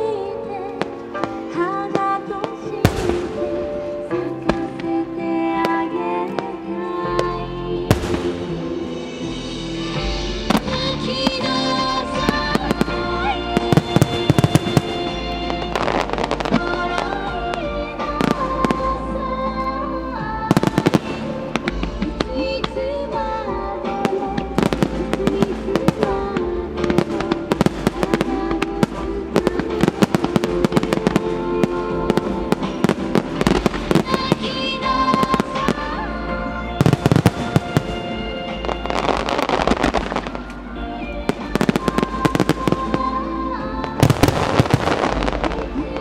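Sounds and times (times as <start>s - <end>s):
firework crackling: 0.0s - 46.0s
music: 0.0s - 46.0s.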